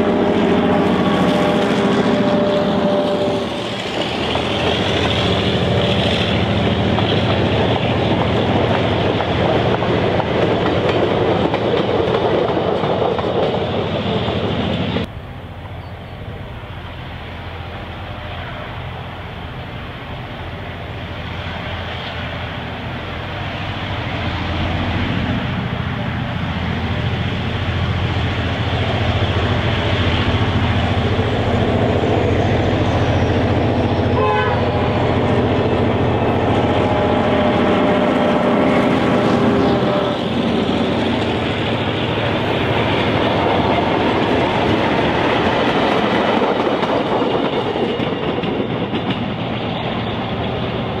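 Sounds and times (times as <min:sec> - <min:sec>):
train wheels clattering on rails: 0:00.0 - 0:15.1, 0:21.3 - 0:51.0
diesel locomotive engine drone: 0:00.0 - 0:51.0.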